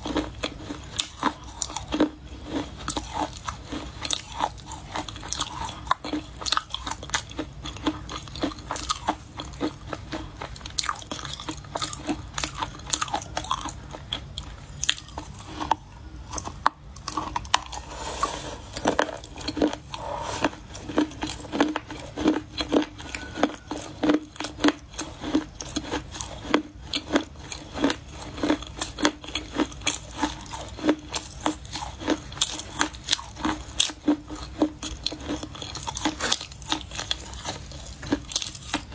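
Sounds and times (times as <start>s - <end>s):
chewing crunchy clay: 0.0s - 38.9s.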